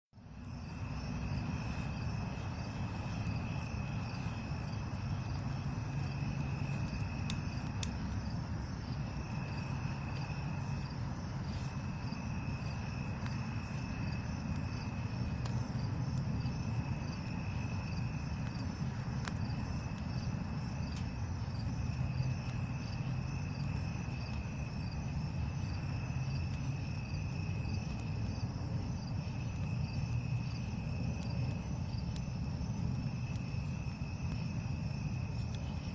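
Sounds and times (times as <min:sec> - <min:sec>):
campfire crackling pops: 0:00.2 - 0:35.9
crickets trilling: 0:00.2 - 0:35.9.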